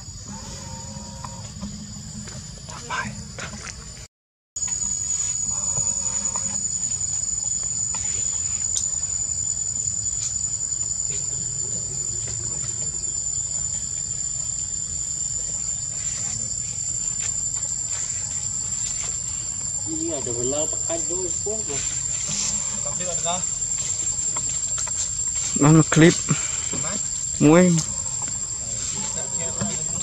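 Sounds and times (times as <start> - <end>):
insects shrilling: 0.0 - 30.0.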